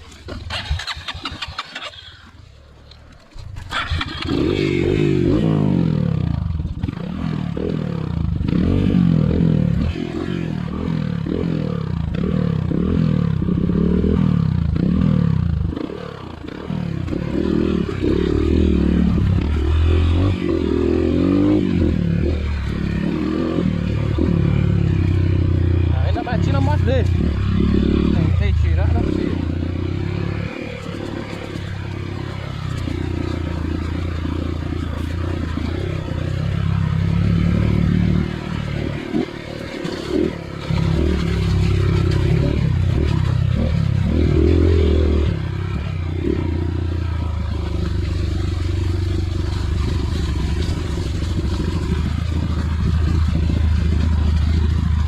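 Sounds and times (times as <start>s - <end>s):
dirt bike engine revving: 0.0s - 2.3s, 3.6s - 55.0s.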